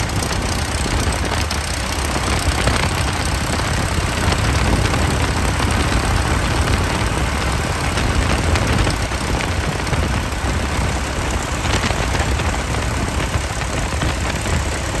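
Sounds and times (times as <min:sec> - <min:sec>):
aircraft engine idling rough: 0:00.0 - 0:15.0.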